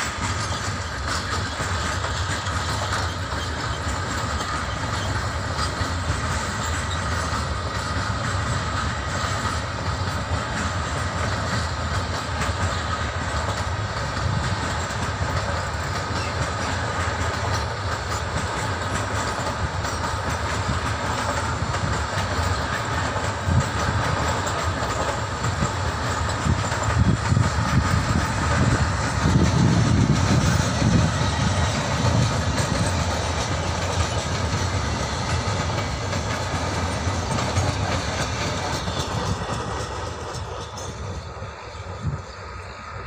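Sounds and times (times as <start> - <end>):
train wheels clattering on rails: 0.0 - 43.0.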